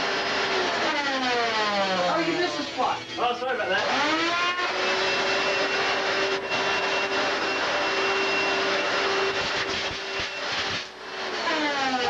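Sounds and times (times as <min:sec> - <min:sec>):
vacuum cleaner whining: 0:00.0 - 0:12.0.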